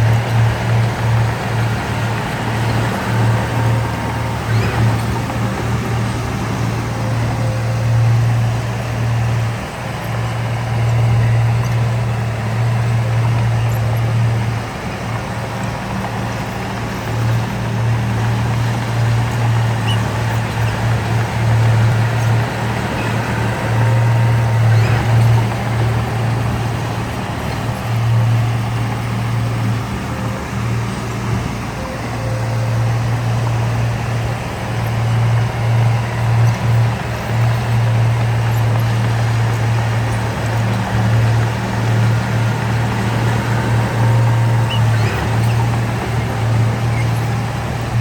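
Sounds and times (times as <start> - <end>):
heavy diesel engine droning: 0.0 - 48.0.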